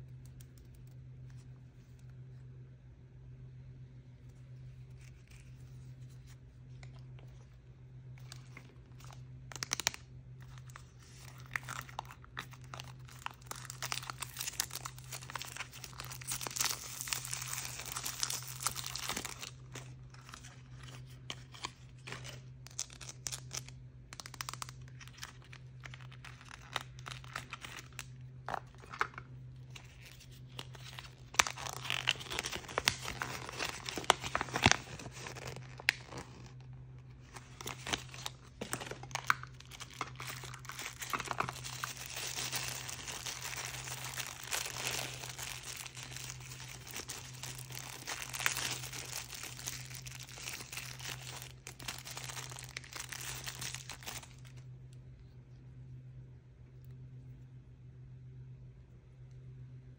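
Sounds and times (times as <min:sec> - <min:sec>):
packaging crinkling and tearing: 0:04.8 - 0:07.4, 0:08.0 - 0:54.7.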